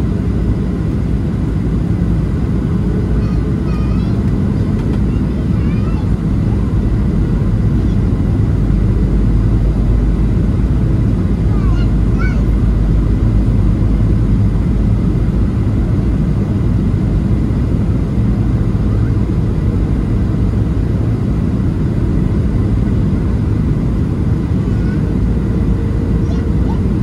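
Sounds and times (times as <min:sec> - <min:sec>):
airplane cabin roar: 0:00.0 - 0:27.0.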